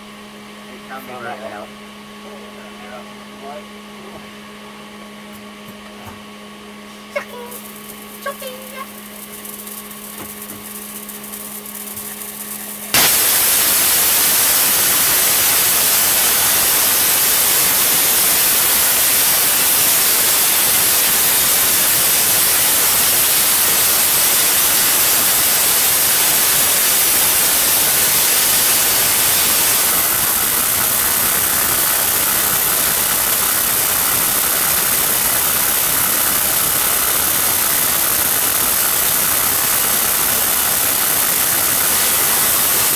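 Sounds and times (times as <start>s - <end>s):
tesla coil spark noise: 7.2s - 42.9s.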